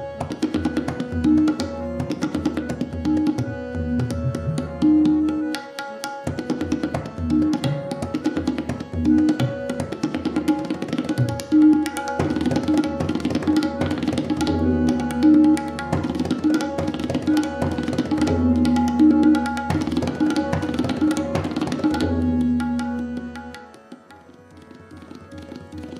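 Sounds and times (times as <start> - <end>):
tabla strokes: 0.0 - 25.9.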